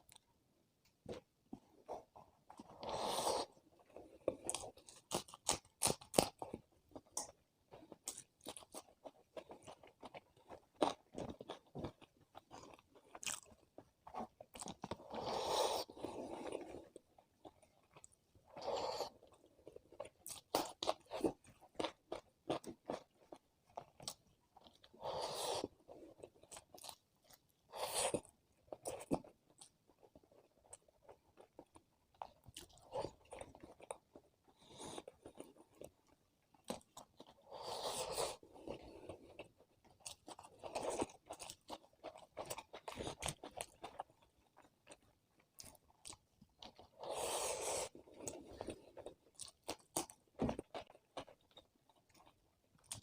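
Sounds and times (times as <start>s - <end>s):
person chewing and crunching food: 0.0s - 53.0s.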